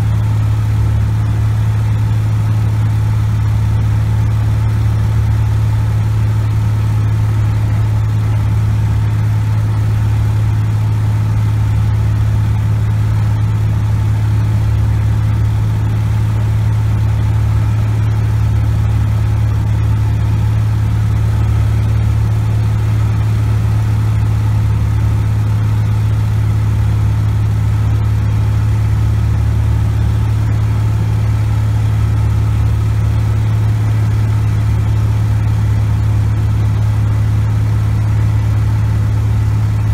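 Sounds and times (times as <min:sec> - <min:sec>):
aircraft engine drone in cabin: 0:00.0 - 0:39.9.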